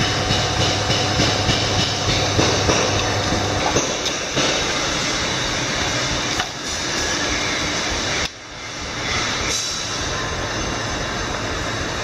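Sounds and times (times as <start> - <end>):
workshop machinery hissing: 0.0 - 12.0.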